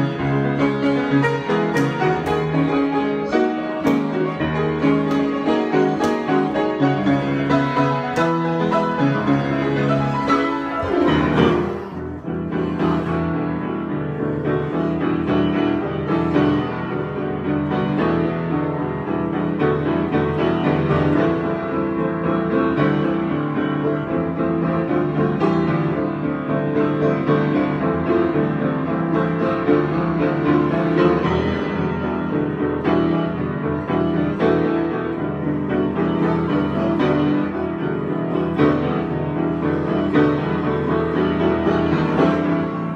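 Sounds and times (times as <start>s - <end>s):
solo piano improvisation: 0.0s - 42.9s.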